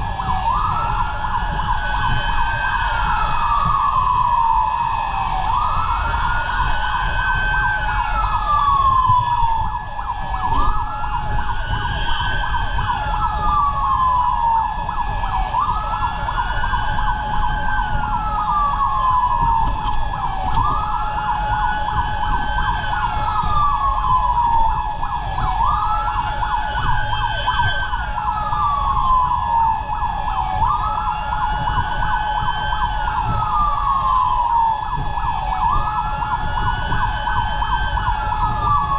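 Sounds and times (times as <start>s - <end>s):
fire truck siren wailing: 0.0s - 38.9s
road and engine rumble: 0.0s - 38.9s
steady siren tone: 0.0s - 38.9s.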